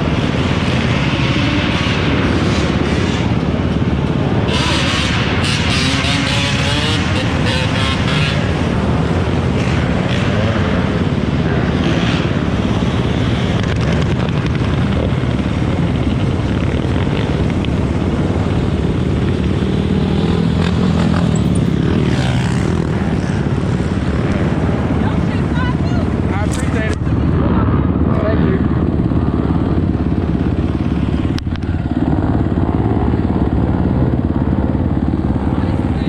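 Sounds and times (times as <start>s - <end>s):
engine drone with heavy rumble: 0.0s - 36.0s.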